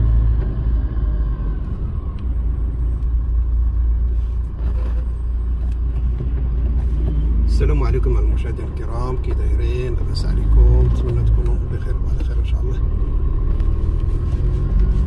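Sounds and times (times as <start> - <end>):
car driving on wet street: 0.0 - 15.0.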